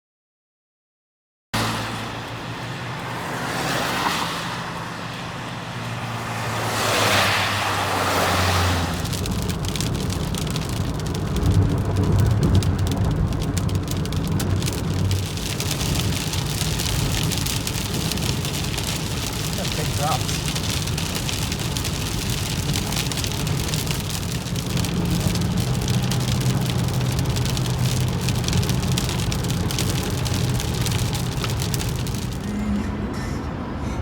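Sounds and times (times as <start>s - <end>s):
raindrops pelting car roof: 1.6s - 33.2s
car engine and road hum: 1.6s - 34.0s.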